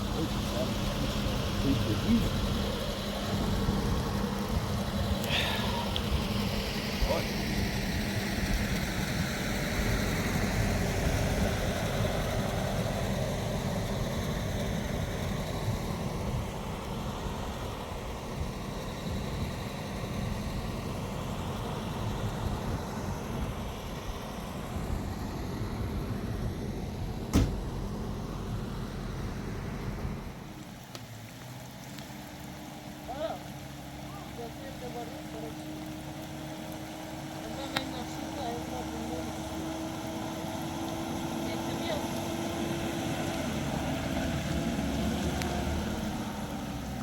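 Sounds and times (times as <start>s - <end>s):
engine running with low rumble: 0.0s - 47.0s.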